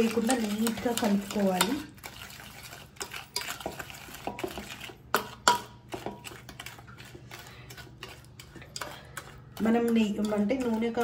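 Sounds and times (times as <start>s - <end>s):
spoon stirring batter in bowl: 0.0s - 11.0s.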